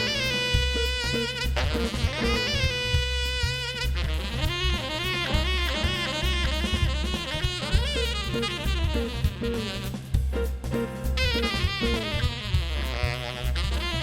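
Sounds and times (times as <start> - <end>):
bass: 0.0 - 14.0
drums: 0.0 - 14.0
saxophone melody: 0.0 - 14.0.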